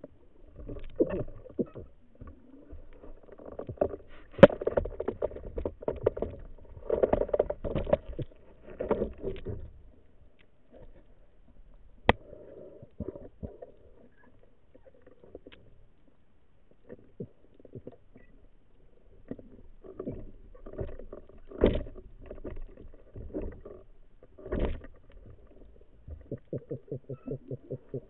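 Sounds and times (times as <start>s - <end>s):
muffled underwater handling noise: 0.0s - 28.0s.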